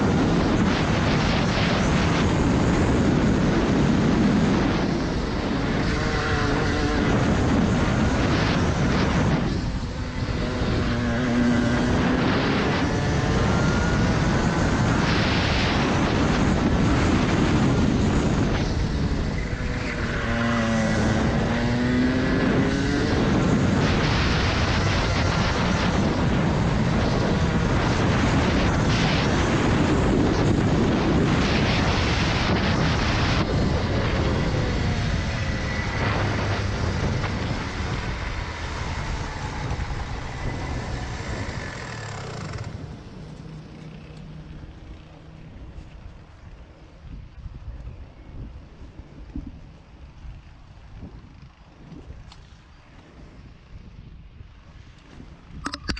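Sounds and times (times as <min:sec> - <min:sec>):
kart engine running hard: 0:00.0 - 0:55.8.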